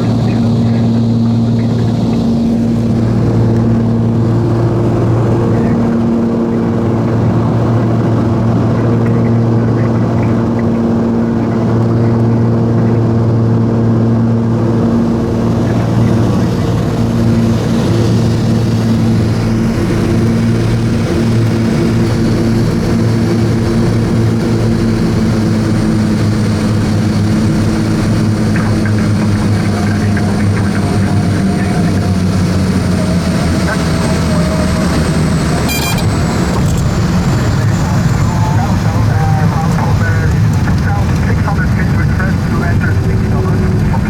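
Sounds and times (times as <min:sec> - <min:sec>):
propeller plane engines droning: 0:00.0 - 0:44.0.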